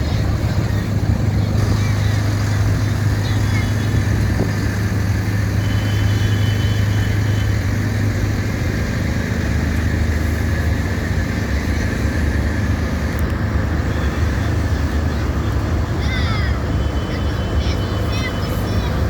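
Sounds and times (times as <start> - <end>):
tractor engine running: 0.0 - 16.7.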